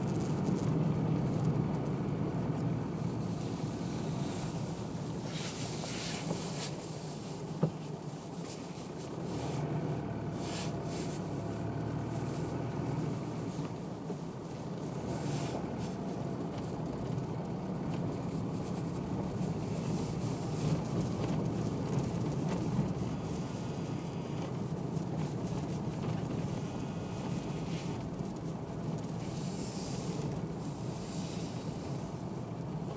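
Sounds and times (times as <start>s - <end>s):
vehicle driving on gravel: 0.0s - 32.9s.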